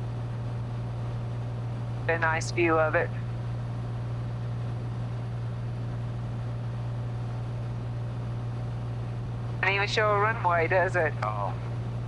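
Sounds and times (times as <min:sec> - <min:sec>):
aircraft engine droning in cabin: 0:00.0 - 0:12.0.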